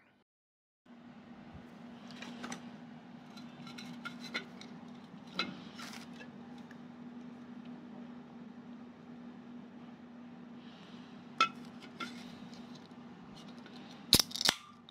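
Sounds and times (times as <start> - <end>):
steady low hum: 0.9 - 14.9.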